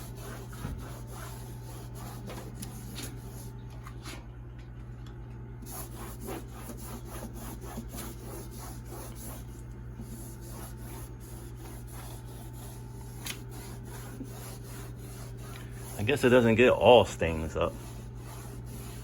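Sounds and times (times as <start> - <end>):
steel pad scrubbing metal panel: 0.0 - 3.0, 5.7 - 19.0.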